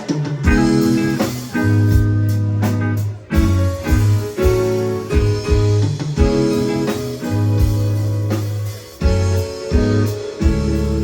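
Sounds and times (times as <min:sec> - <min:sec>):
bass guitar: 0:00.0 - 0:11.0
drum kit: 0:00.0 - 0:11.0
electric guitar: 0:00.0 - 0:11.0
keyboard chords: 0:00.0 - 0:11.0.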